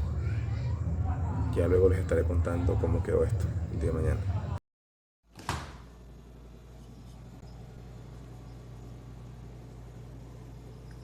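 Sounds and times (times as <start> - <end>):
refrigerator compressor humming: 0.0 - 4.6, 5.4 - 11.0.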